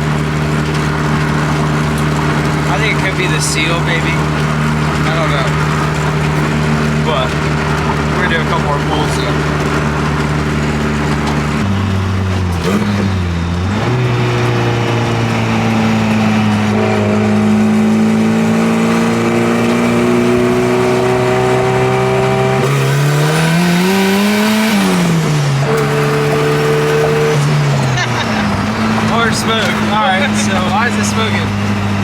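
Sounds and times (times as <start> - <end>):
car engine revving under load: 0.0 - 32.0.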